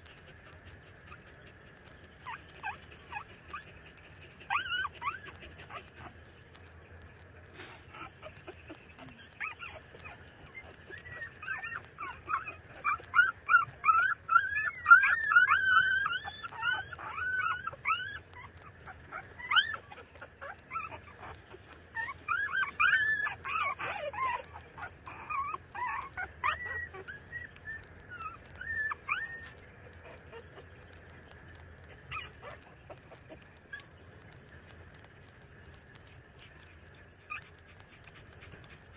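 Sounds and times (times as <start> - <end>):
puppies squeaking and whimpering: 0.0 - 6.7, 7.7 - 35.1, 35.7 - 38.9.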